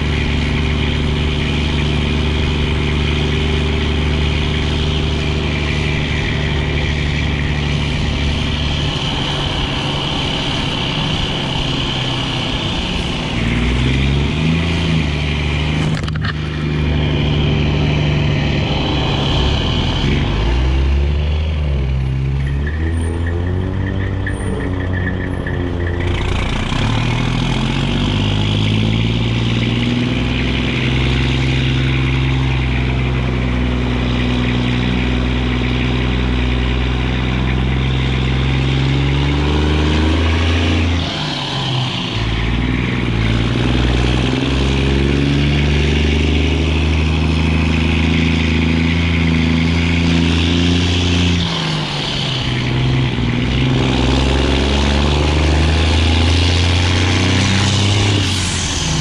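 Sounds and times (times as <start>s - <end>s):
diesel truck exhaust under throttle: 0.0s - 59.0s.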